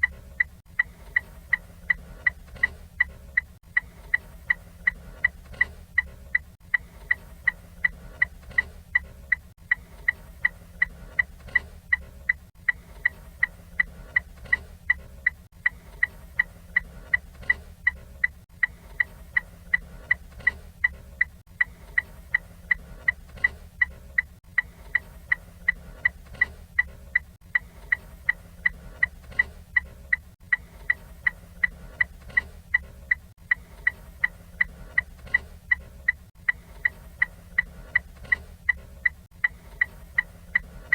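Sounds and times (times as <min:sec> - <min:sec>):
car turn signal ticking: 0:00.0 - 0:40.9.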